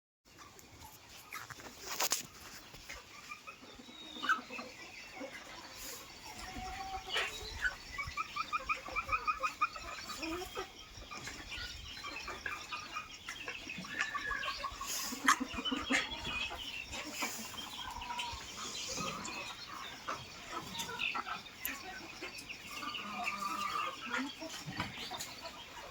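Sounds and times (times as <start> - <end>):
chickens clucking: 0.3 - 25.9.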